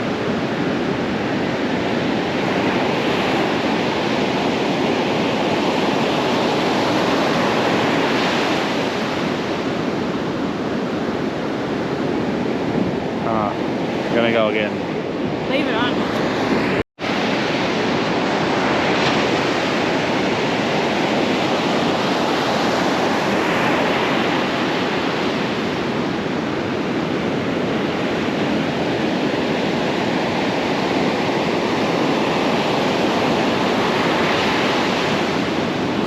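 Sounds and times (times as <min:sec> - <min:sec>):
ocean surf breaking on beach: 0:00.0 - 0:36.0.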